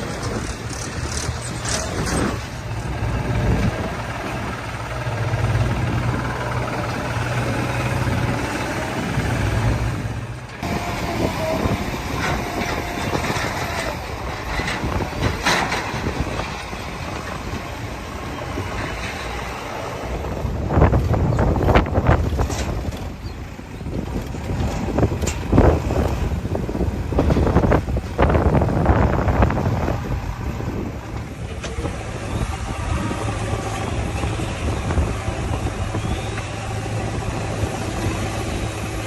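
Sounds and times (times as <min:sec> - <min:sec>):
diesel machinery running: 0:00.0 - 0:39.0.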